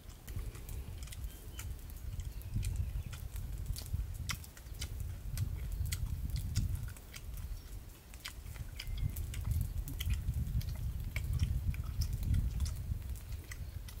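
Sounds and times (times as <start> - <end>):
crunchy chewing: 0.0 - 14.0
steady low rumble: 0.0 - 14.0.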